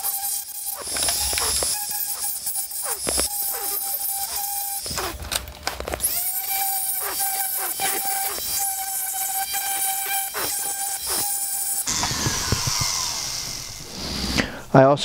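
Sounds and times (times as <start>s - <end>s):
cutter scraping metal: 0.0s - 13.9s
die grinder whining: 0.0s - 14.1s.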